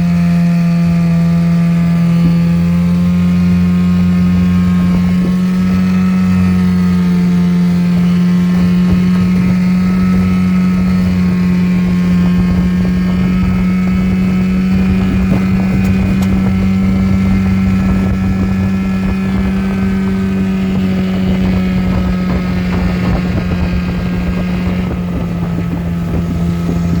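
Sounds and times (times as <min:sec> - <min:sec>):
outboard motor running: 0:00.0 - 0:27.0
wind buffeting microphone: 0:00.6 - 0:27.0.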